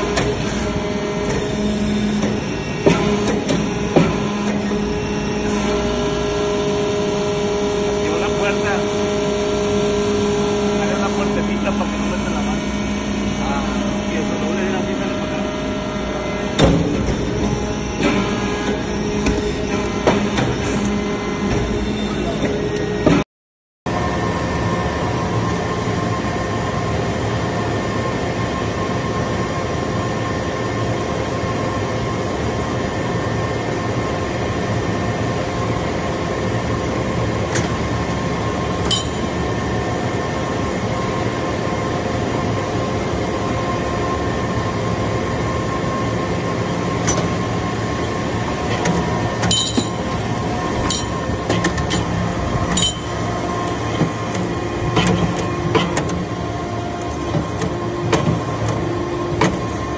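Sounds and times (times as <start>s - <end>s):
hydraulic press humming: 0.0s - 23.2s, 34.6s - 59.9s.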